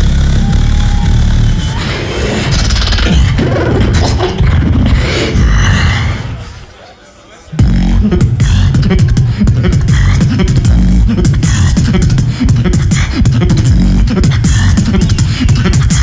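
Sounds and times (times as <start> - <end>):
amplified beatboxing: 0.0 - 6.5, 7.5 - 16.0.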